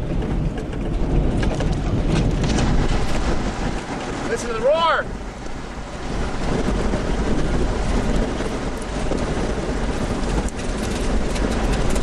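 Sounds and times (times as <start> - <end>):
tornado wind roaring: 0.0 - 12.0
wind buffeting microphone: 0.0 - 12.0.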